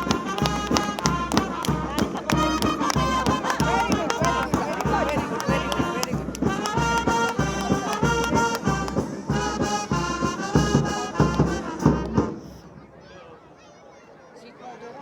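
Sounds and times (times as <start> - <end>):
music with a steady beat: 0.0 - 12.3.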